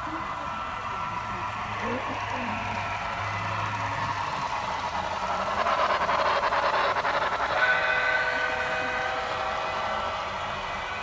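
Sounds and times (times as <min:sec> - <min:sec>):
model train running noise: 0:00.0 - 0:11.0.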